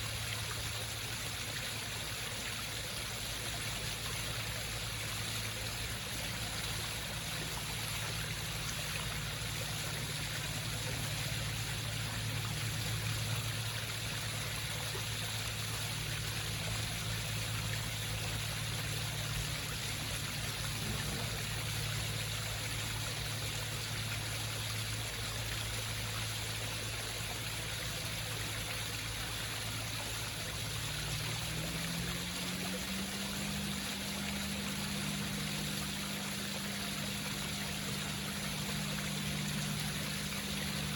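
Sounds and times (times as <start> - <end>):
low steady hum: 0.0 - 40.9
water trickling over rocks: 0.0 - 40.9.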